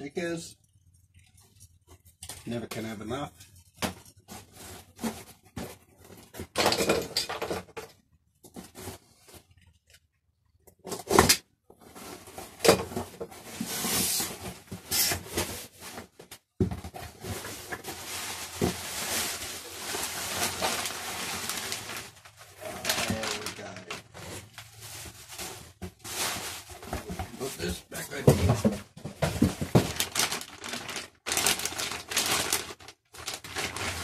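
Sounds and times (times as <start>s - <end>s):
cardboard and bubble wrap rustling: 1.4s - 9.8s, 10.8s - 34.0s.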